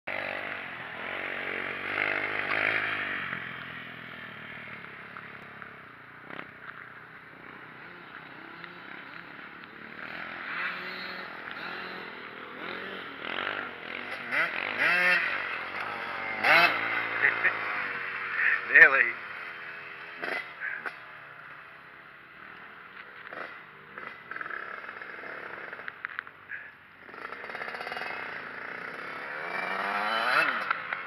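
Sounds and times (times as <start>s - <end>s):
dirt bike engine revving: 0.1s - 5.0s, 7.3s - 21.4s, 22.0s - 31.0s.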